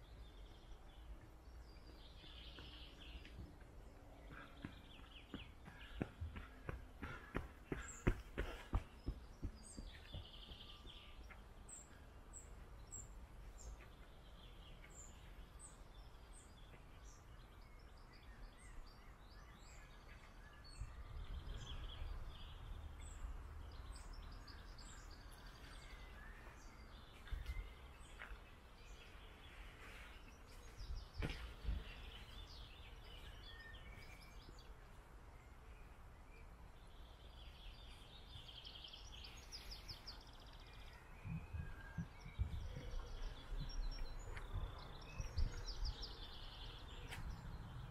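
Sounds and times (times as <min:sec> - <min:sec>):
small birds singing and calling: 0:00.0 - 0:47.9.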